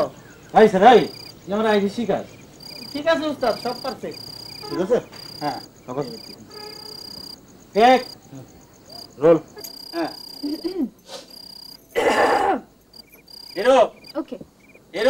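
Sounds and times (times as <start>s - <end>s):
short rising and falling calls: 0.0s - 12.0s, 13.0s - 14.9s
crickets trilling: 0.0s - 15.0s.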